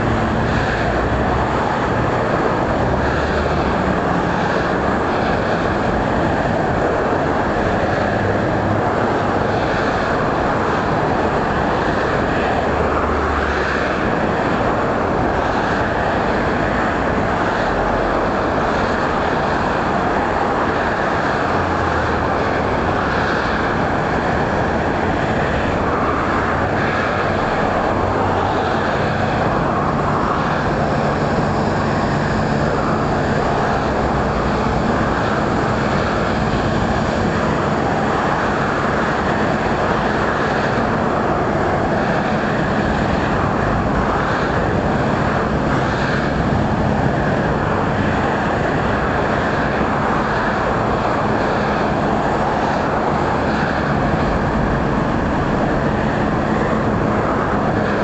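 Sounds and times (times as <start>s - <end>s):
engine drone: 0.0s - 58.0s
even rushing noise: 0.0s - 58.0s.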